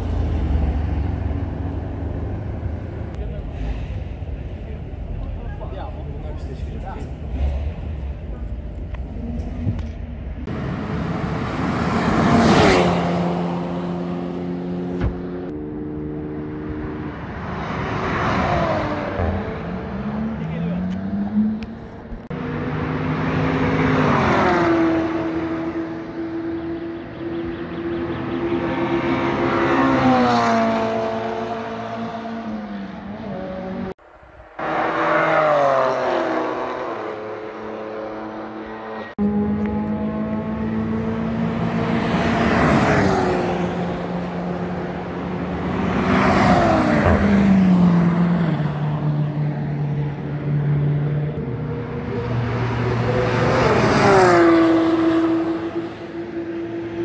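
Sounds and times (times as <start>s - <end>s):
race cars passing at speed: 0.0s - 57.0s.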